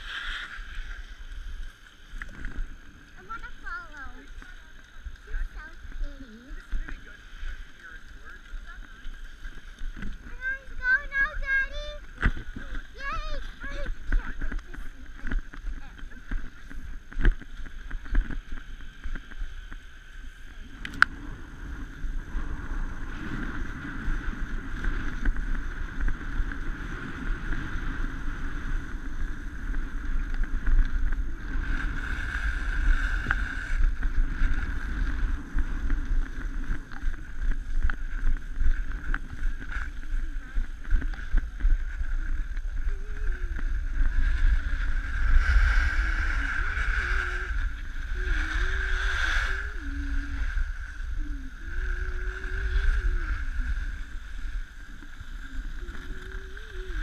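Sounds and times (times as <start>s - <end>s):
skis scraping over snow: 0.0s - 57.0s
wind on microphone: 0.0s - 57.0s.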